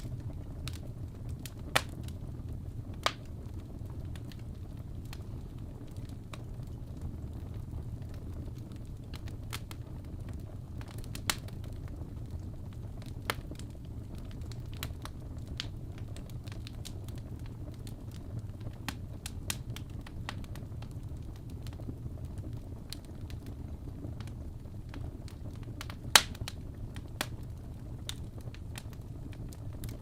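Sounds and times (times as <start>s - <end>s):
fire rumbling: 0.0s - 30.0s
wood fire pops and snaps: 0.0s - 30.0s.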